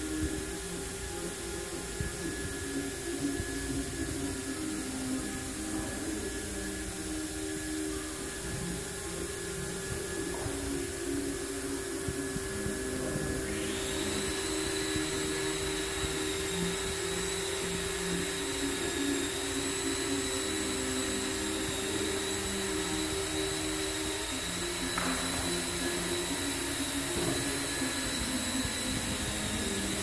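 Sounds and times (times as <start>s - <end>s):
high machine whine: 0.0s - 30.0s
motor-driven machine humming: 0.0s - 30.0s.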